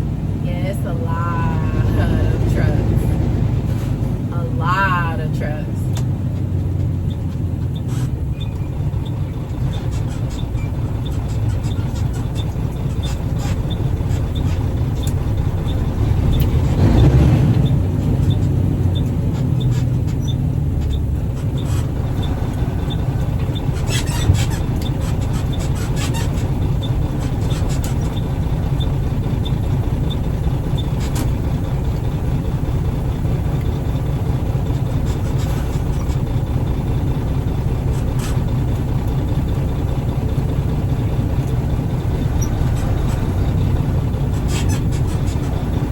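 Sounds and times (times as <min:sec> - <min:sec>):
truck engine and road rumble: 0:00.0 - 0:45.9.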